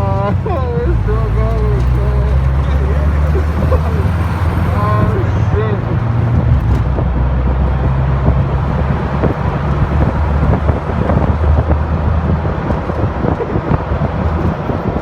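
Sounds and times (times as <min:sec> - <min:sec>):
truck engine and road rumble: 0:00.0 - 0:15.0
wind buffeting microphone: 0:00.0 - 0:15.0.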